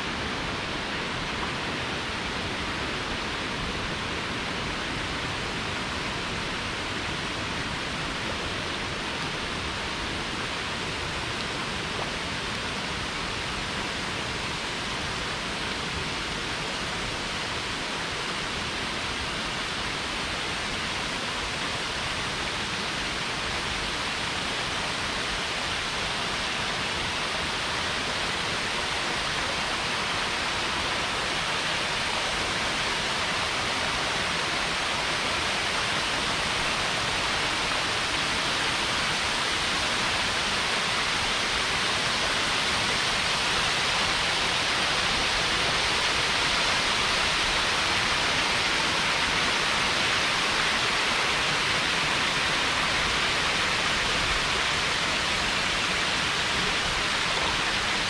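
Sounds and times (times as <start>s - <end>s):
waterfalls splashing over rocks: 0.0s - 58.0s.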